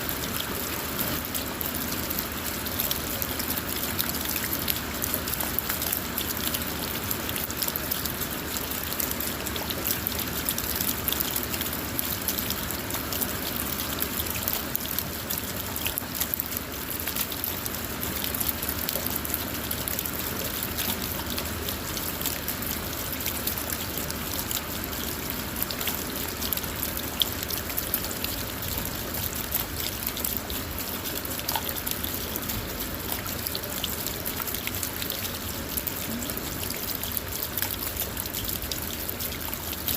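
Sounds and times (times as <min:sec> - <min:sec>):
rain drops ticking on a car: 0:00.0 - 0:39.9
water trickling: 0:00.0 - 0:39.9.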